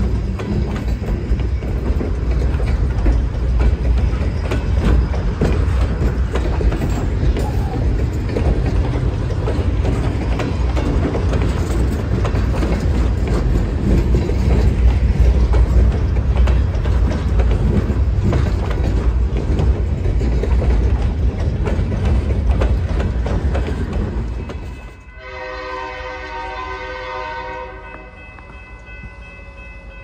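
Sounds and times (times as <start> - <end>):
wheels clicking over rails: 0.0 - 25.0
freight train rumbling past: 0.0 - 30.0.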